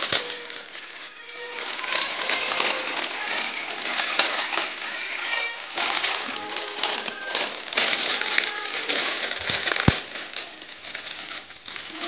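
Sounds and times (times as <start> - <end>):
foil sachet torn open: 0.0 - 12.0
plastic packets crinkling: 0.0 - 12.0.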